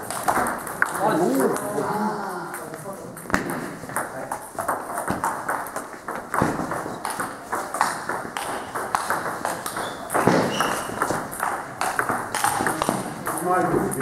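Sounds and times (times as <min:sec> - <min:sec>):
table tennis balls clicking: 0:00.0 - 0:01.8, 0:02.5 - 0:14.0.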